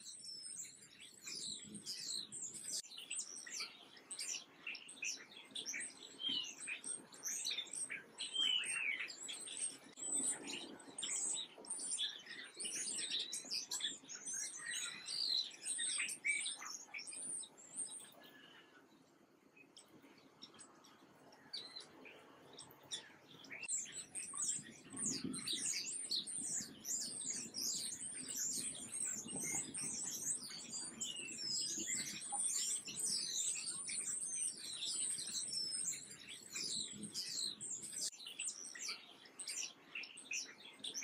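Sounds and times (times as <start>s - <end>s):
small songbirds chirping: 0.0s - 41.0s.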